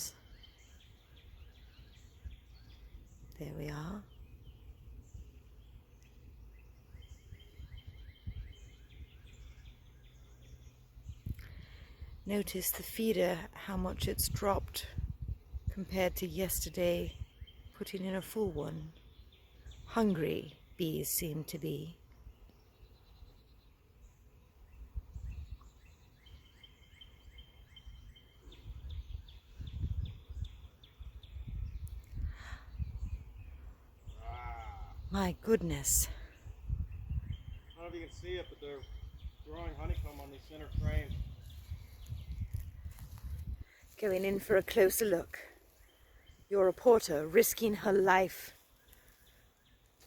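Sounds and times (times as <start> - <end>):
bird chirping: 0.0 - 13.3, 15.0 - 50.0
wind rumble on microphone: 0.0 - 20.0, 24.7 - 45.4.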